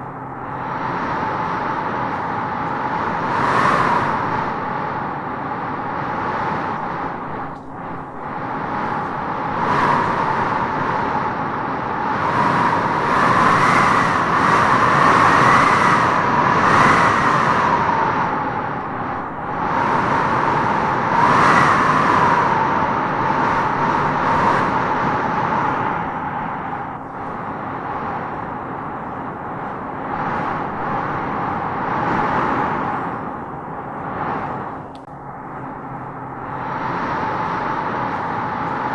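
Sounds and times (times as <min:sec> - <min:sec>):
strong gusting wind howling: 0:00.0 - 0:38.9.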